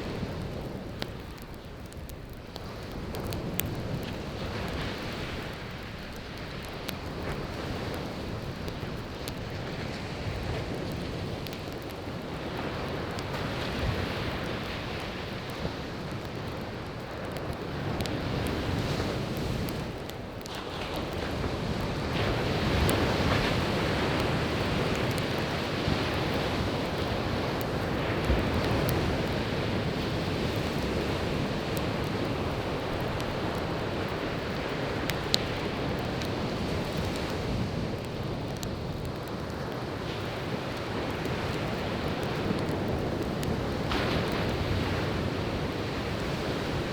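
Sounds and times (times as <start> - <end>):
campfire crackling: 0.0 - 46.9
ocean waves washing on shore: 0.0 - 46.9.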